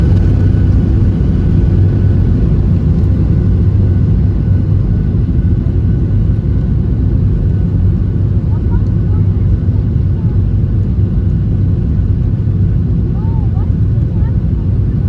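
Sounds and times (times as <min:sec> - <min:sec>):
airliner landing rumble: 0:00.0 - 0:15.0.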